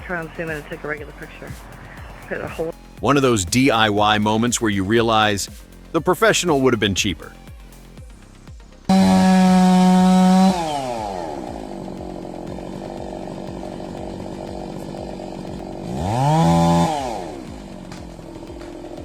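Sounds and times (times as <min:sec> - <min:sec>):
chainsaw engine revving and idling: 0:00.0 - 0:08.0, 0:08.9 - 0:19.0.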